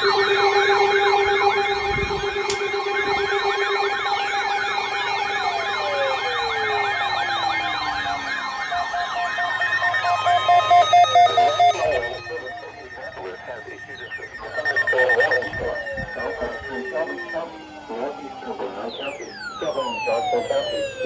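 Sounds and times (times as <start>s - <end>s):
electronic siren-like warbling: 0.0s - 21.0s.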